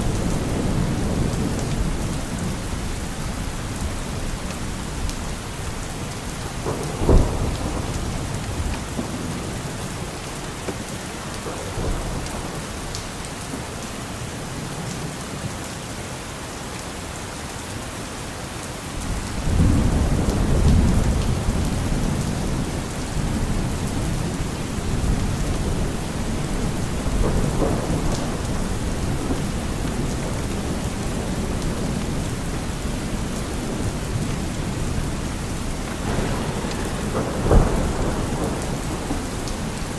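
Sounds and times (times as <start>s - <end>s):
rolling thunder: 0.0s - 13.2s, 19.0s - 39.9s
steady rain: 0.0s - 39.9s.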